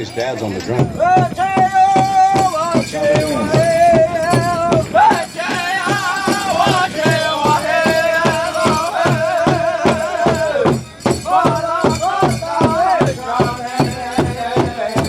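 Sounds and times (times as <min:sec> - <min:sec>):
large drum beating: 0:00.6 - 0:15.0
group singing in high voices: 0:01.0 - 0:15.0.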